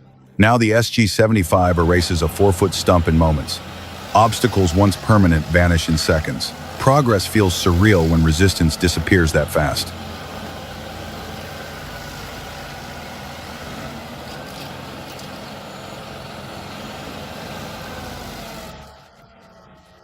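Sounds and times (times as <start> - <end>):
stump grinder running: 1.2 - 20.0.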